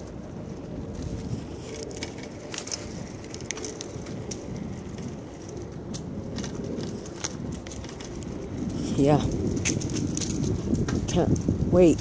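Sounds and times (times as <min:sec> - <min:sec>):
bicycle clicks and rattles: 0:00.0 - 0:12.0
bicycle tyres rolling: 0:00.0 - 0:12.0
wind rumble on microphone: 0:00.0 - 0:12.0.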